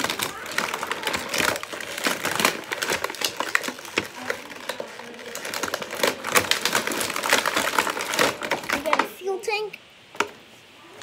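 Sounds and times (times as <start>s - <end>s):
plastic toy pieces clicking: 0.0s - 9.1s
plastic packaging crackling: 0.0s - 9.5s.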